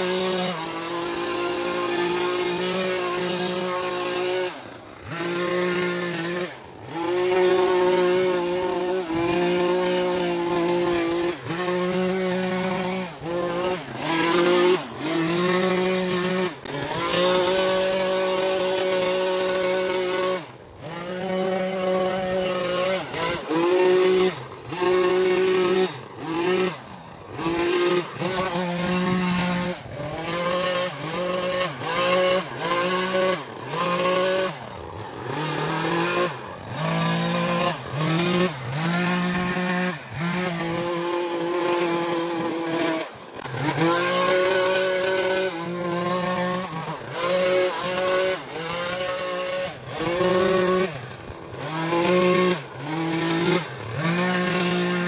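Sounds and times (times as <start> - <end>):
small engine revving: 0.0 - 55.0.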